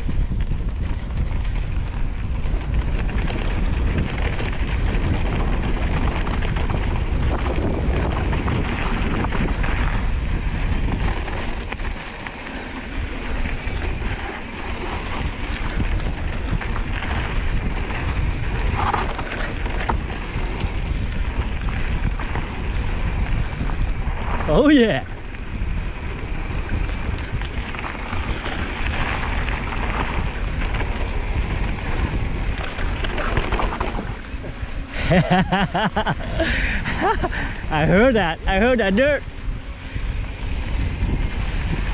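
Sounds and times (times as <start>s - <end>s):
bike rattling: 0.0s - 41.9s
tyre noise on dirt: 0.0s - 41.9s
wind buffeting microphone: 0.0s - 41.9s.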